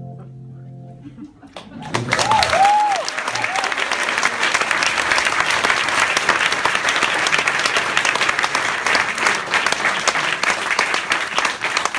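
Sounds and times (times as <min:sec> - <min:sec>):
audience applauding: 0:01.5 - 0:11.9.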